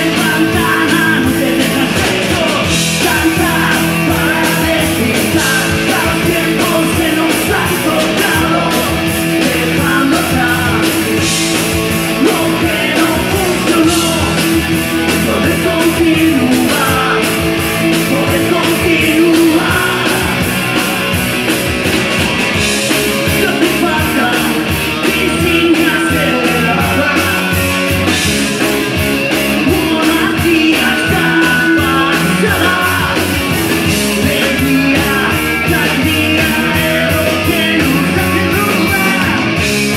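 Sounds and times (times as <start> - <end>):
man singing lead vocal: 0.0 - 21.5, 22.5 - 39.9
live rock band playing: 0.0 - 39.9.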